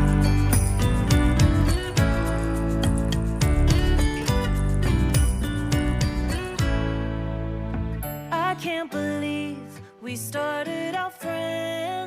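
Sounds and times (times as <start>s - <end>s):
pop music with beat: 0.0s - 12.0s.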